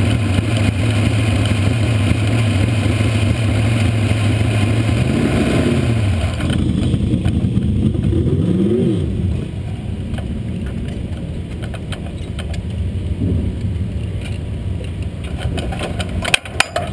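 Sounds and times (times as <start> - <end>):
race car engine idling: 0.0 - 16.9.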